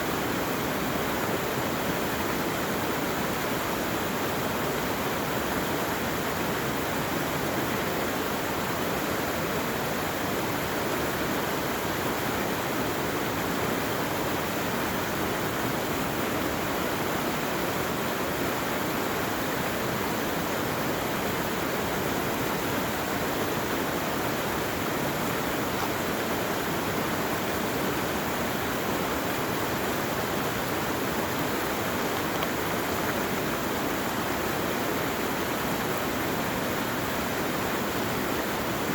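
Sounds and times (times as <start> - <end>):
rushing running water: 0.0 - 38.9.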